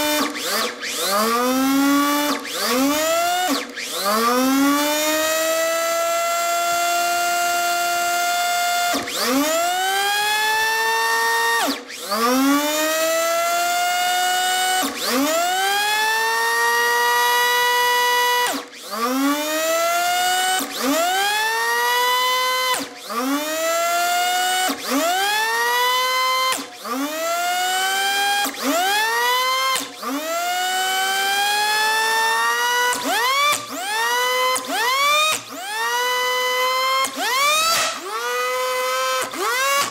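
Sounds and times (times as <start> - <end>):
vacuum motor whine rising: 0.0 - 39.9.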